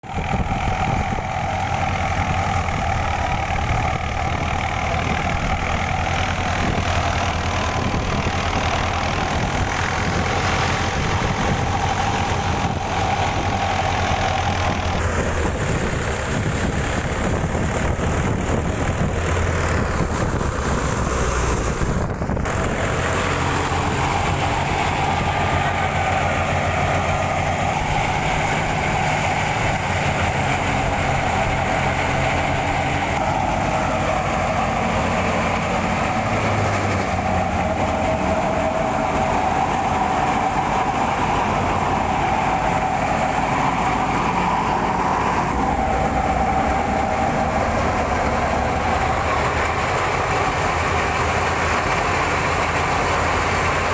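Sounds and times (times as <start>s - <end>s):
harvester engine running: 0.0s - 53.9s.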